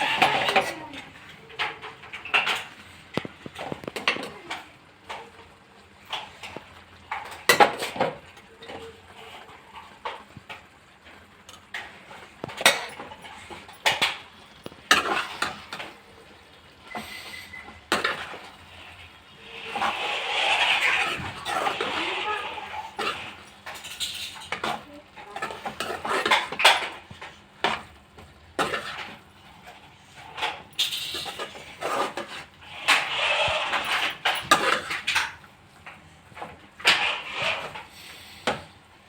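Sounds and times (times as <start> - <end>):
metal spoon scraping a pan: 0.0 - 5.3, 6.1 - 10.2, 11.4 - 35.5, 36.8 - 38.6.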